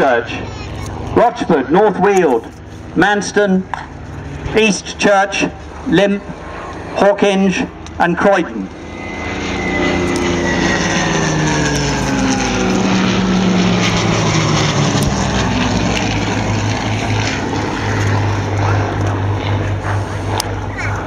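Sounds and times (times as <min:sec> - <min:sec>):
propeller plane engine passing: 0:00.0 - 0:21.0.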